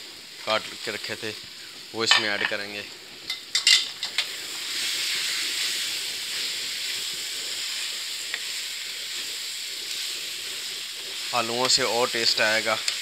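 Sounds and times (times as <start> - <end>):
food sizzling in a hot pan: 0.0 - 13.0.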